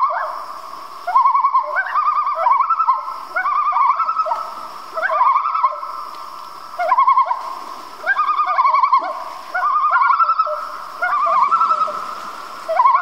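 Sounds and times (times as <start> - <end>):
bird warbling call: 1.1 - 5.9, 6.8 - 13.0.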